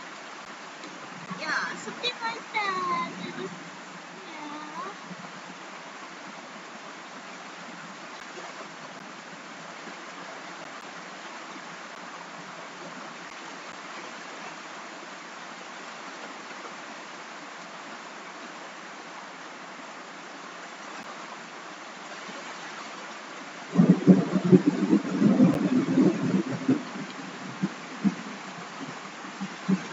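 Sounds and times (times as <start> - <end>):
steady rain hiss: 0.0 - 29.9.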